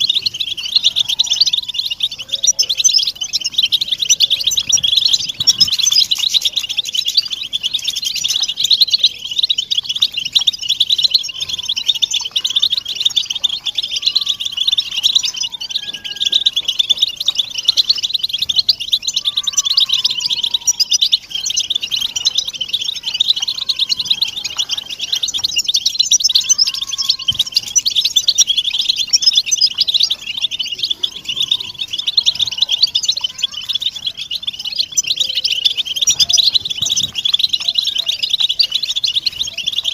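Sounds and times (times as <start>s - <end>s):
flock of finches chirping: 0.0s - 39.9s.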